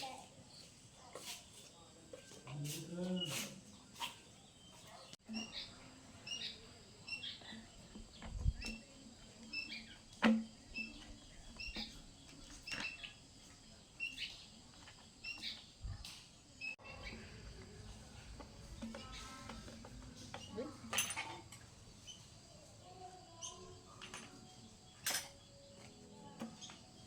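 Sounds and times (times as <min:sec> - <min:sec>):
birds chirping: 0:01.6 - 0:27.0.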